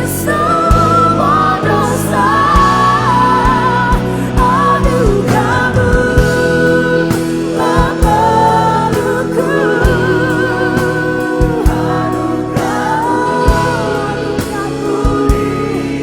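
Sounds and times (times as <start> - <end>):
band playing: 0.0 - 16.0
bass: 0.0 - 16.0
vocal group singing: 0.0 - 16.0
drum beats: 0.7 - 16.0.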